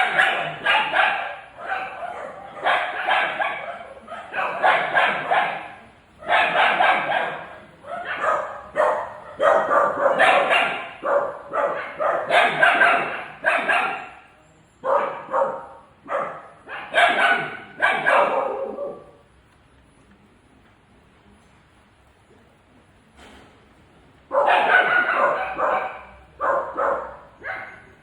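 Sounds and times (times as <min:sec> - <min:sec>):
dog barking: 0:00.0 - 0:19.2, 0:24.3 - 0:28.0.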